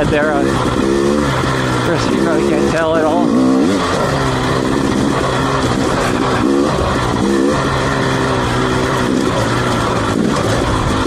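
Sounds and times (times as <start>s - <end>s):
two-stroke motorcycle engine: 0.0s - 11.0s.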